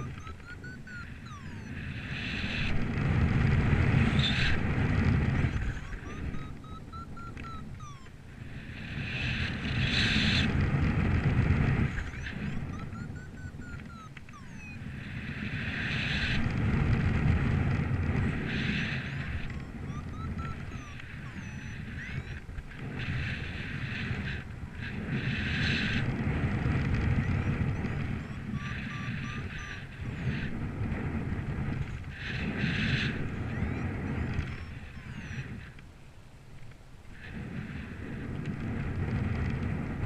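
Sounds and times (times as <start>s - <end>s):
wind buffeting microphone: 0.0s - 14.0s, 14.8s - 35.8s, 37.1s - 40.0s.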